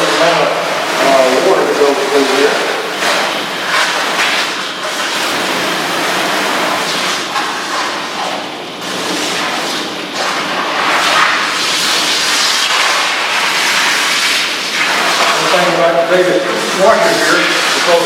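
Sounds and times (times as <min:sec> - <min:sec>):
water spraying and splashing: 0:00.0 - 0:18.0.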